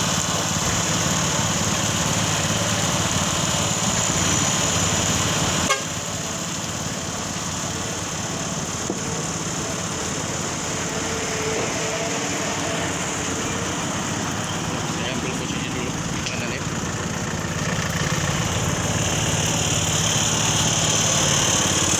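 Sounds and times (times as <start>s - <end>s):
engines running: 0.0s - 21.9s.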